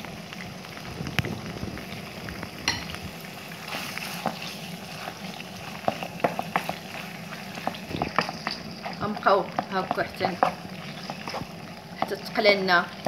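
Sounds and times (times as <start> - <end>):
crackles and pops: 0.0 - 12.2
meat sizzling in oil: 0.0 - 13.0.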